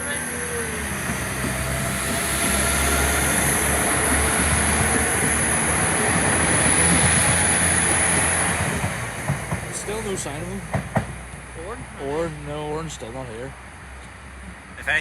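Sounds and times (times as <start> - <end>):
train wheels rumbling on rails: 0.0 - 13.2.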